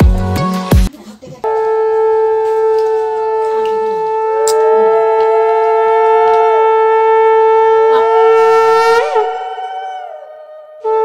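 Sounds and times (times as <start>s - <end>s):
conch shell blown: 1.5s - 11.0s
wavering tone: 1.5s - 11.0s.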